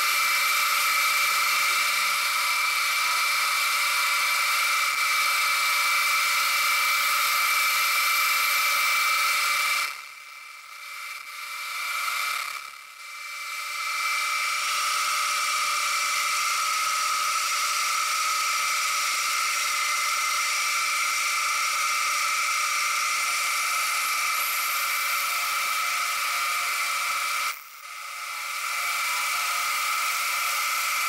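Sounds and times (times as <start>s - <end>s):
milling machine whine: 0.0s - 31.0s.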